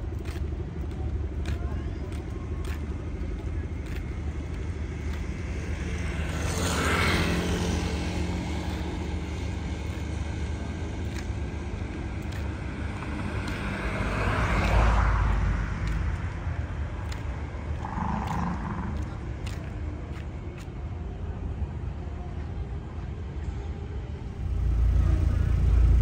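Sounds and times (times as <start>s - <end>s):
car engine rumble: 0.0s - 26.0s.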